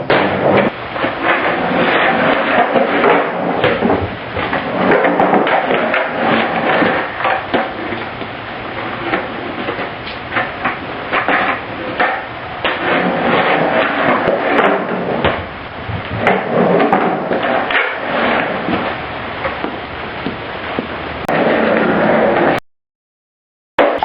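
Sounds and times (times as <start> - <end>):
skateboard deck clacking: 0.0 - 22.6
skateboard wheels rolling: 0.0 - 22.6.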